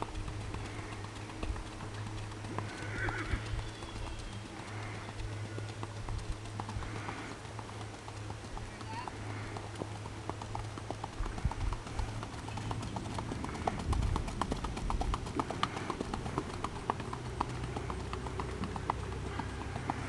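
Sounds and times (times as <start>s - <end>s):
pony hoofbeats clip-clop: 0.0s - 20.0s.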